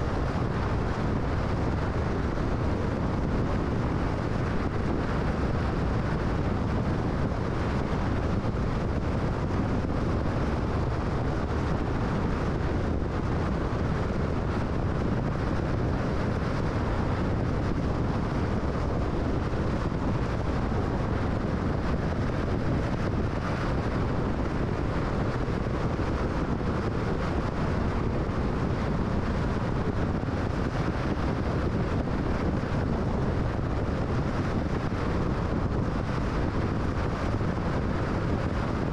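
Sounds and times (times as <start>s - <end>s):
car road noise at highway speed: 0.0s - 38.9s.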